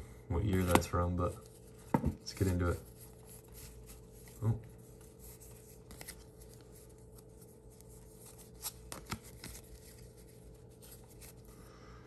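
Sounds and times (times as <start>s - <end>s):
faint steady hum: 0.0s - 12.0s
trading cards rustling: 0.5s - 11.6s.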